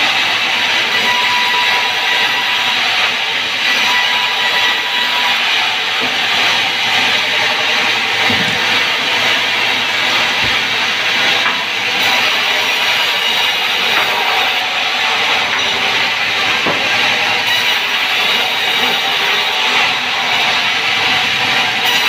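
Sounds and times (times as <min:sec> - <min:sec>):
band saw cutting through log: 0:00.0 - 0:22.0.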